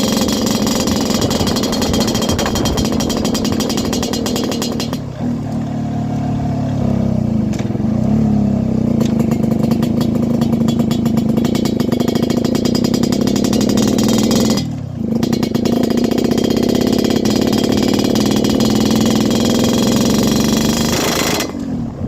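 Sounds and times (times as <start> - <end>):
two-stroke motorcycle engine buzzing: 0.0 - 22.0.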